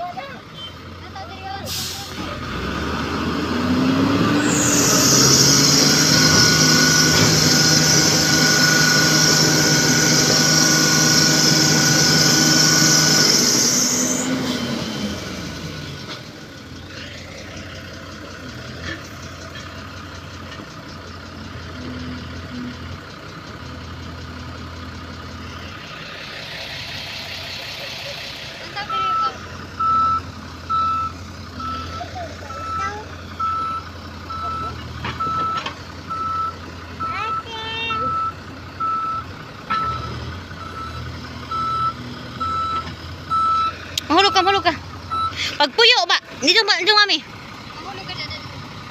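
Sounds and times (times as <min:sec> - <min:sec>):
diesel truck engine revving: 0:00.0 - 0:48.9.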